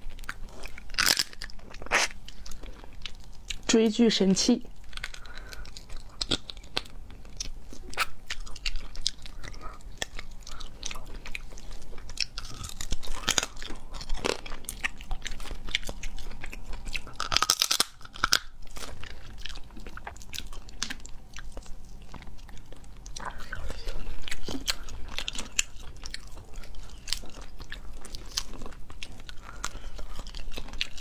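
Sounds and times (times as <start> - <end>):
person chewing and crunching: 0.0 - 3.8, 4.7 - 31.0.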